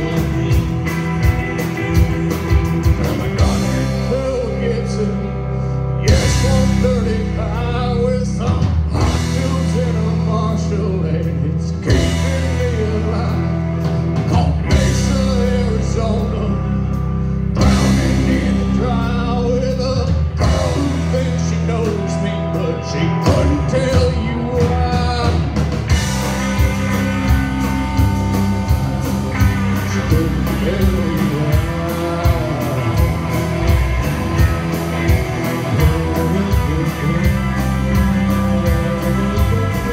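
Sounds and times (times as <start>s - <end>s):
drum kit: 0.0s - 5.4s, 6.0s - 39.9s
man singing: 0.0s - 25.9s, 26.9s - 39.9s
bass guitar: 0.0s - 39.9s
electric and acoustic guitars: 0.0s - 39.9s.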